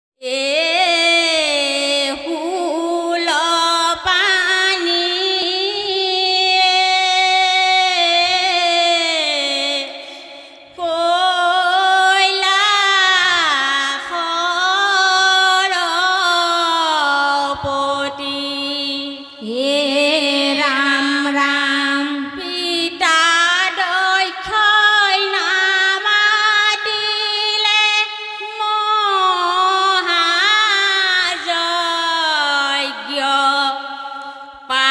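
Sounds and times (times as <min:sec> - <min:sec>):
women singing devotional song: 0:00.2 - 0:34.9.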